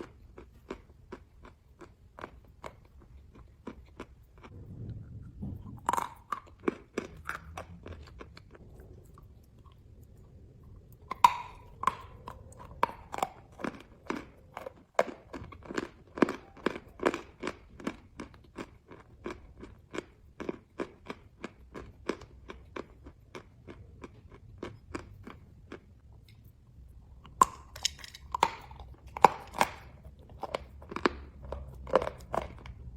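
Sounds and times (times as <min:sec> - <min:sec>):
person biting and chewing chalk: 0:00.0 - 0:32.9.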